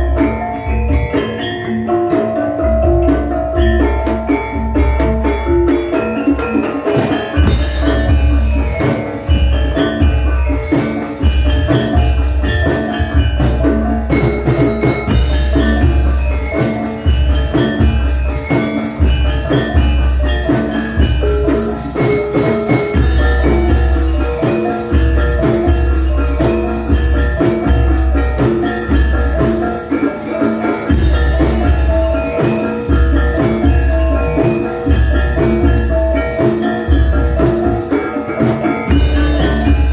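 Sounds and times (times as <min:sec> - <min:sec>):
deep drum and gong beats: 0:00.0 - 0:29.7, 0:30.9 - 0:39.9
metallophones and gongs melody: 0:00.0 - 0:39.9.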